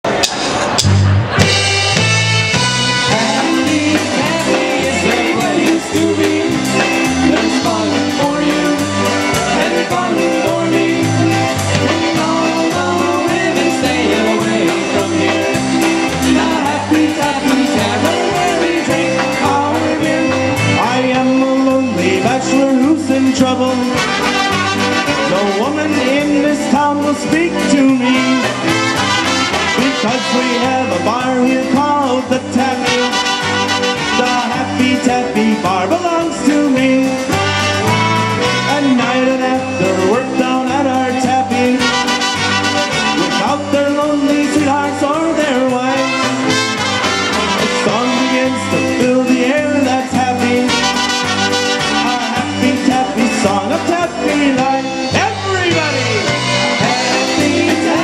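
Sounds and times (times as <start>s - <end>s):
polka band playing: 0.0s - 58.0s.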